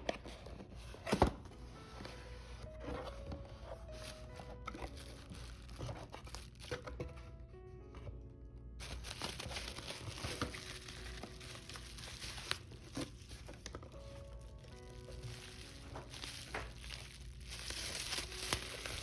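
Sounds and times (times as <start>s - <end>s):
packaging crinkling and rustling: 0.0s - 7.4s, 8.8s - 19.0s
soft background music: 0.0s - 19.0s.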